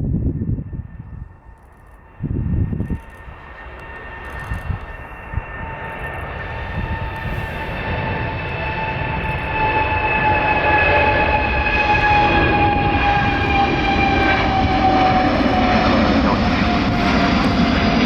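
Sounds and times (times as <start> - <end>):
jet engines roaring with whine: 0.0 - 18.0.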